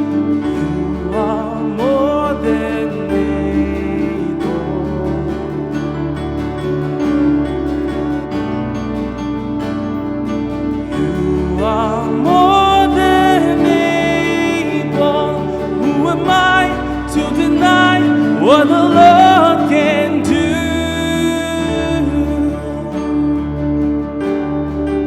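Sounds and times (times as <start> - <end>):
person singing wordless vocals: 0.0 - 7.4, 10.8 - 24.1
slow gospel band music: 0.0 - 25.0.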